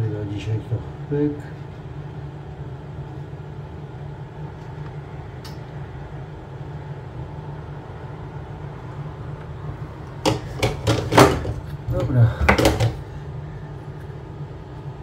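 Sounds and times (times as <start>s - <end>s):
hot-air gun fan humming: 0.0s - 15.0s.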